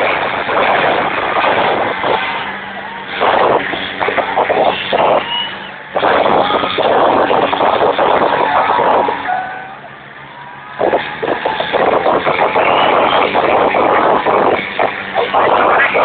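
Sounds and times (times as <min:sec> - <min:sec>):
tractor diesel engines revving: 0:00.0 - 0:16.0.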